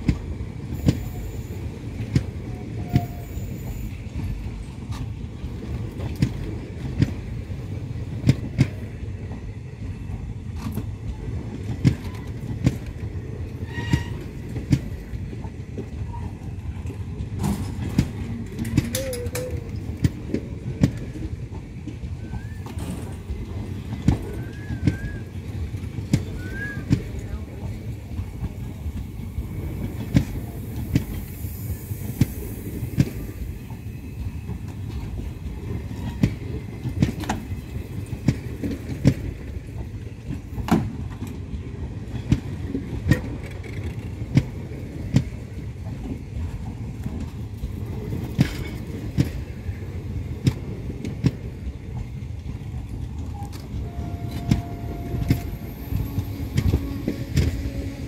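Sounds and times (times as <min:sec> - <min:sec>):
wheels clacking over rail joints: 0:00.0 - 0:31.3, 0:32.2 - 0:58.0
train wheels rumbling on rail: 0:00.0 - 0:58.0.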